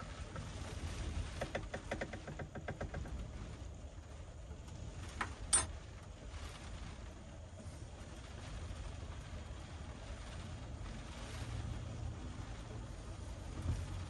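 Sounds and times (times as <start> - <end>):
wind and rain on a van: 0.0 - 14.0.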